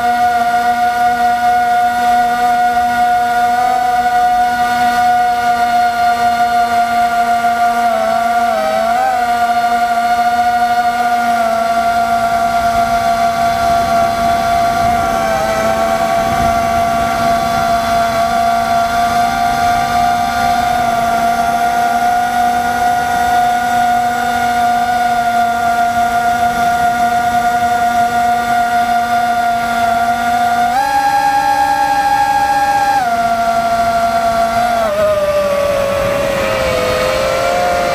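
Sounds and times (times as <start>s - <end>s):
drone propellers whining: 0.0s - 37.9s.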